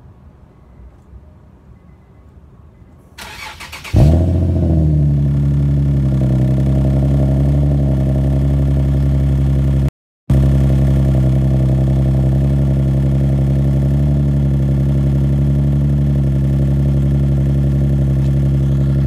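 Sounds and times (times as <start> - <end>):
car engine starting and idling: 3.2 - 19.0.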